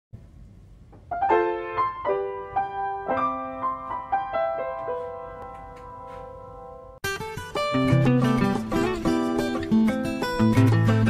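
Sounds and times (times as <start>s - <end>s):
piano notes and chord: 1.0s - 11.0s.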